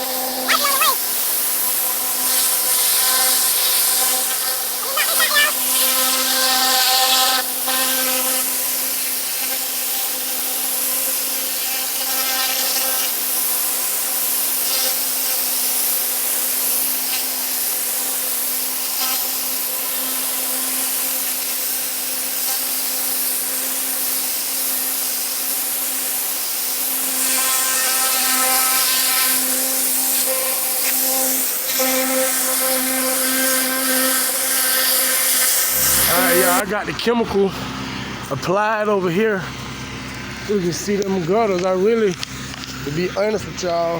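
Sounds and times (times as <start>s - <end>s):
water spray hissing: 0.0s - 38.1s
pressure washer motor drone: 0.0s - 43.9s.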